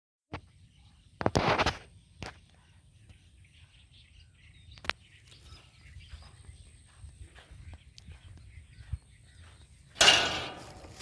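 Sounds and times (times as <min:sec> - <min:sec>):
outdoor background noise: 0:00.3 - 0:11.0.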